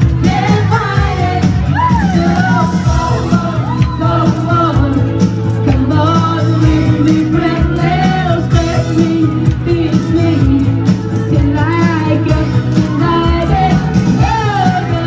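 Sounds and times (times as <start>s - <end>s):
backing track with beat and bass: 0.0s - 15.0s
woman singing through microphone: 0.1s - 15.0s.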